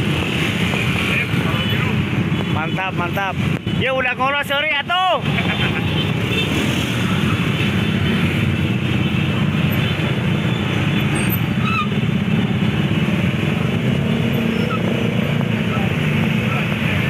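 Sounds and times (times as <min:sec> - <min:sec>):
scooter and motorcycle engines rumbling: 0:00.0 - 0:17.0.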